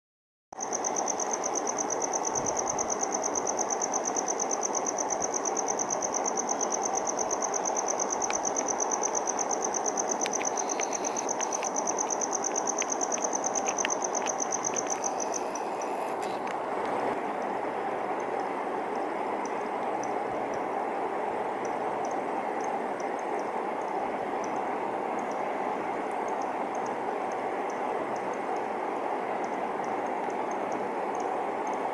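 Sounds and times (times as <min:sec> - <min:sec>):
cricket chirping: 0:00.6 - 0:16.6, 0:21.4 - 0:31.9
steady low hiss: 0:00.6 - 0:31.9.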